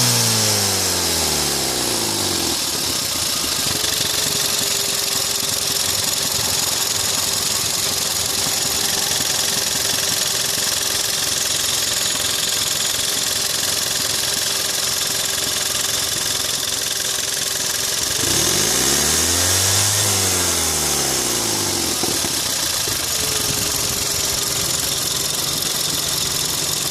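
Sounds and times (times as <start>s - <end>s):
car engine idling and revving: 0.0s - 26.9s.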